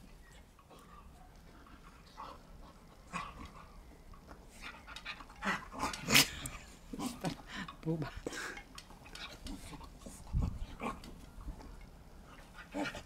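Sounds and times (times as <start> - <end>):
dogs panting: 0.4 - 13.0.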